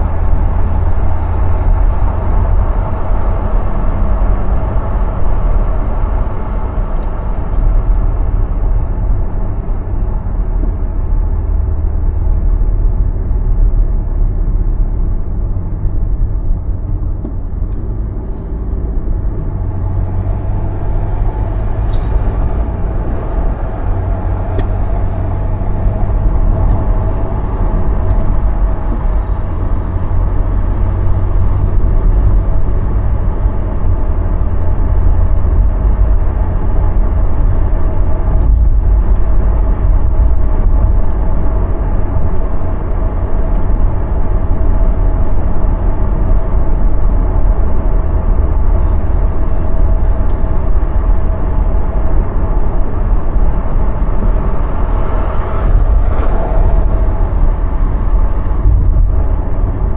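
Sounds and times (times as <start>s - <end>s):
car driving road noise: 0.0s - 59.9s.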